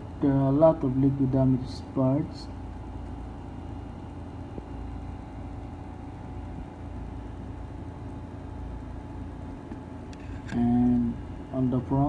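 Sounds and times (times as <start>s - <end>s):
faint constant hum: 0.0s - 12.0s
steady low rumble: 0.0s - 12.0s.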